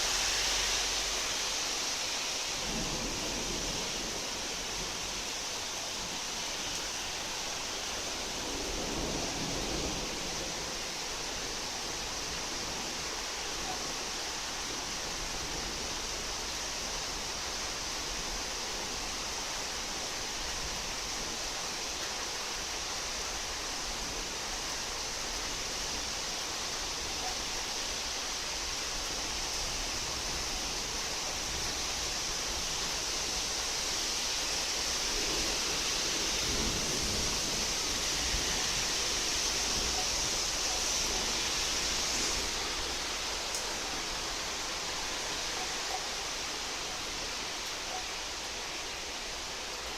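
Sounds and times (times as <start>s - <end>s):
rain pouring: 0.0s - 49.9s.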